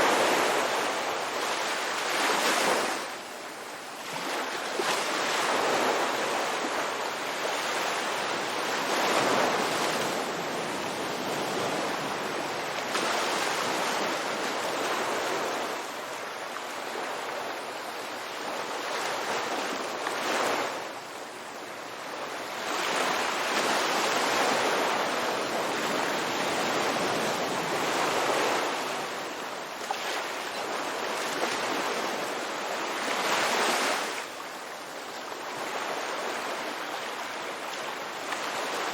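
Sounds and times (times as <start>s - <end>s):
ocean waves breaking: 0.0s - 3.2s, 3.9s - 21.0s, 21.7s - 34.4s.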